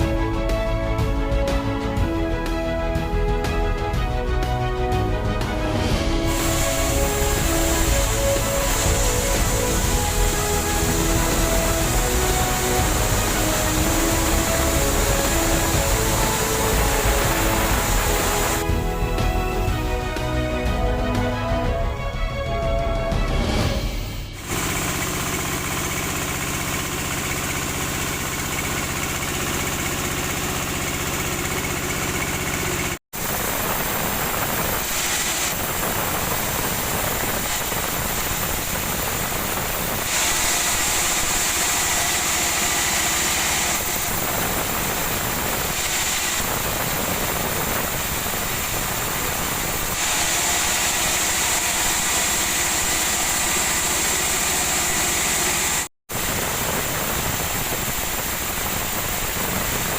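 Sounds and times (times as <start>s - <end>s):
motor hum: 0.0s - 21.5s, 24.2s - 59.9s
harsh noisy machine sound: 0.0s - 21.8s, 23.3s - 59.9s.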